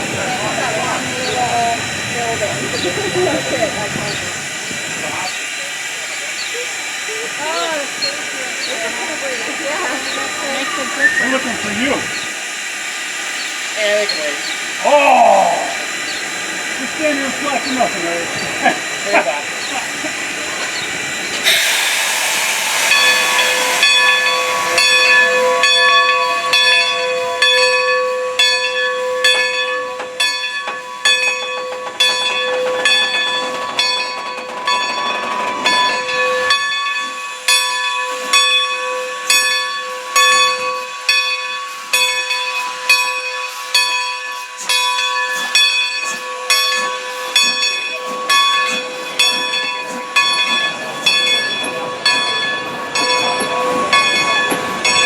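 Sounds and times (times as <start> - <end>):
locomotive bell ringing: 0.0 - 55.0
steam locomotive hissing steam: 0.0 - 55.0.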